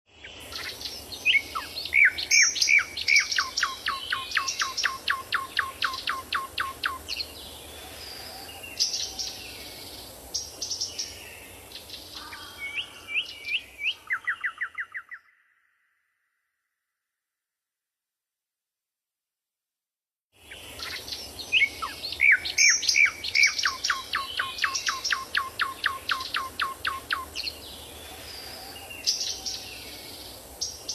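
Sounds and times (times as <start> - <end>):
songbirds singing: 0.1 - 15.5, 20.4 - 30.9.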